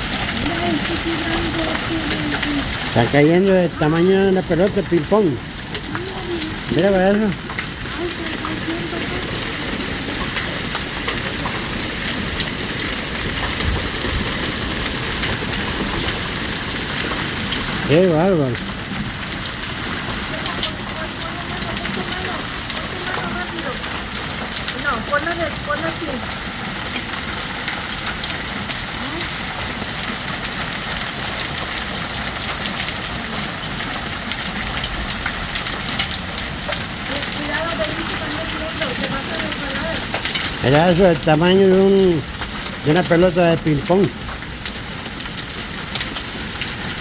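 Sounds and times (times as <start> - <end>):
hail and rain hissing: 0.0 - 47.0
hailstones clicking: 0.0 - 47.0.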